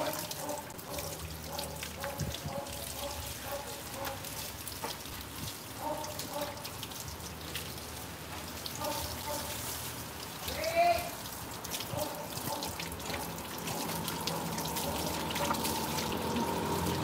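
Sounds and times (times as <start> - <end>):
hose water splashing on concrete: 0.0 - 17.0.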